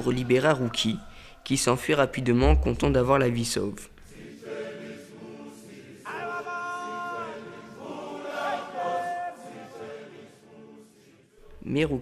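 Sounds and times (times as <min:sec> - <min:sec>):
choral singing: 0:00.0 - 0:02.6, 0:04.0 - 0:12.0.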